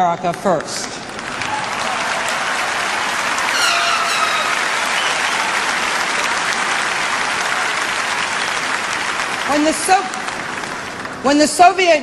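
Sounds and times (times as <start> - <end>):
audience applauding: 0.4 - 11.3.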